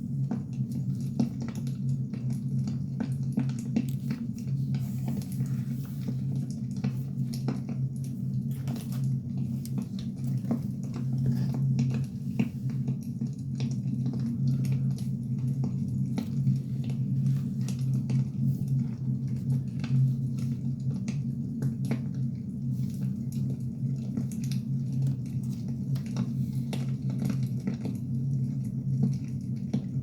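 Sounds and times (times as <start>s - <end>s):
fire low rumble: 0.0s - 30.0s.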